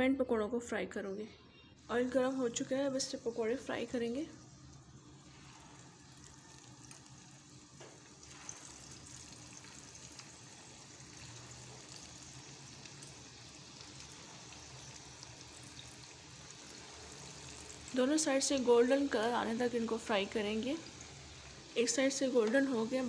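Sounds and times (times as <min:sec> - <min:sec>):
fritters sizzling in hot oil: 0:01.8 - 0:23.0.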